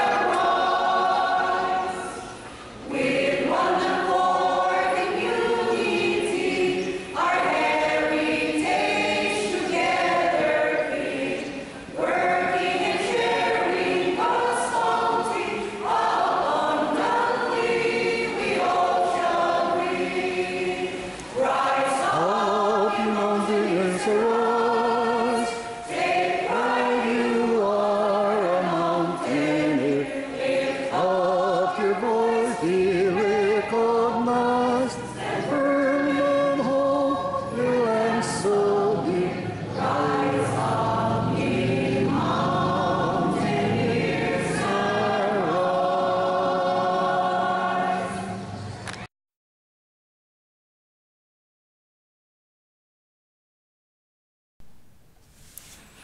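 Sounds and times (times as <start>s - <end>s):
choir singing: 0.0s - 48.8s.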